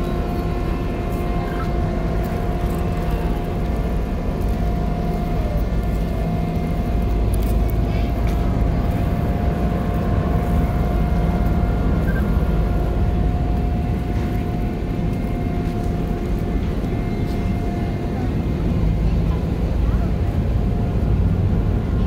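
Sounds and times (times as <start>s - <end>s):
ferry engines rumbling: 0.0s - 22.0s.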